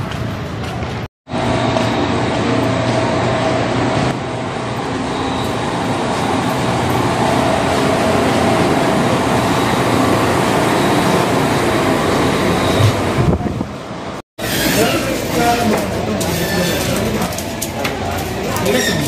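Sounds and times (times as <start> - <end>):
steady mechanical hum: 0.4 - 19.0.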